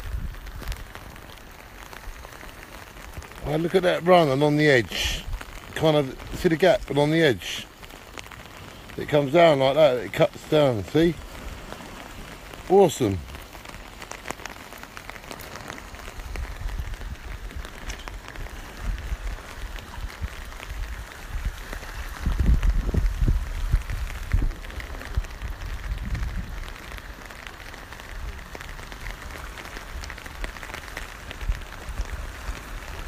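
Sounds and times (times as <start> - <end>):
rain pattering on an umbrella: 0.0 - 33.0.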